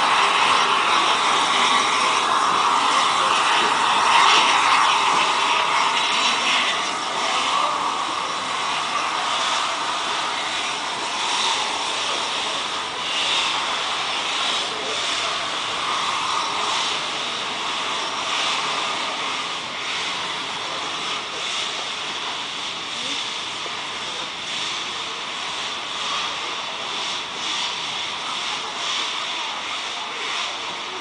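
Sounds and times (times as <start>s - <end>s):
steam locomotive venting steam: 0.0s - 31.0s.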